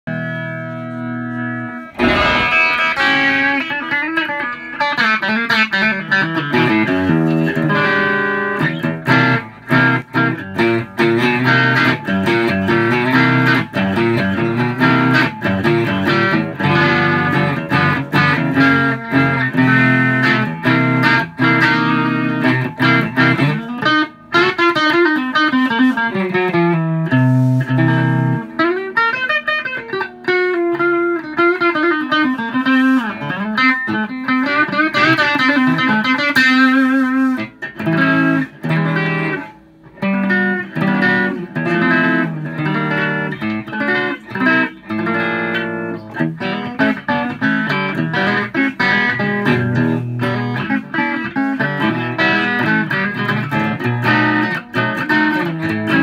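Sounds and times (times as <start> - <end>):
amplified electric guitar playing: 0.1 - 56.0.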